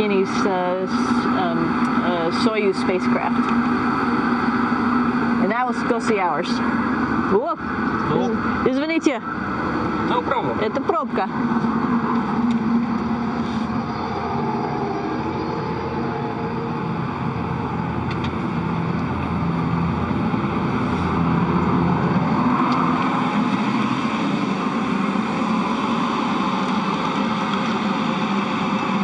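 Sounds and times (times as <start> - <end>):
ventilation fans whirring hum: 0.0 - 29.0.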